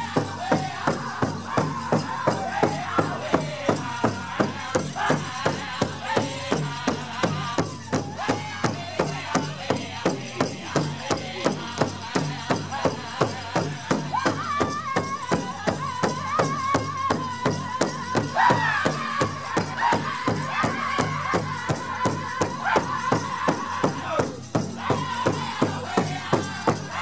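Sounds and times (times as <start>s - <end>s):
high-pitched group singing: 0.0s - 27.0s
large drum steady beat: 0.0s - 27.0s.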